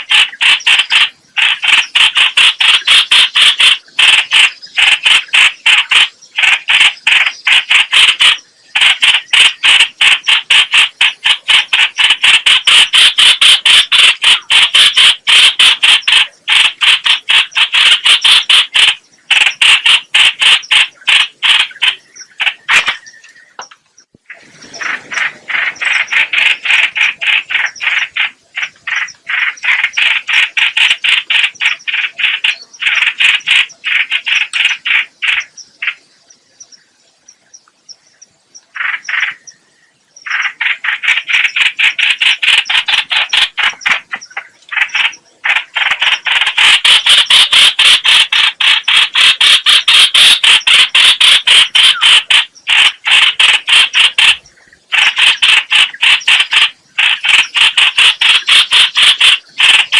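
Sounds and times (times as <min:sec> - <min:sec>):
bird calling harsh repeated notes: 0:00.0 - 0:59.9.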